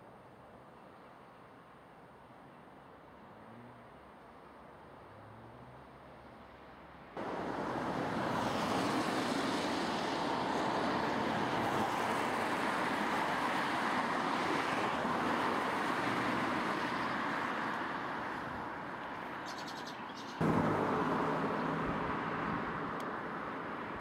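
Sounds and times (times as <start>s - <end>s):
road traffic hiss: 0.0s - 24.0s.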